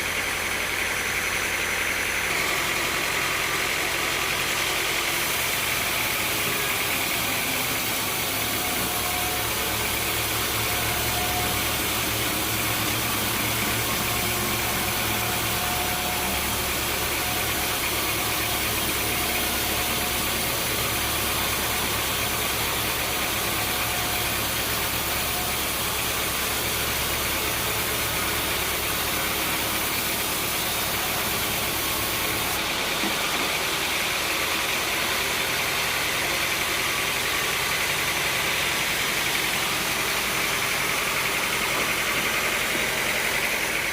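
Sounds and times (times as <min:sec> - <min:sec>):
sawmill machinery hum and hiss: 0:00.0 - 0:43.9.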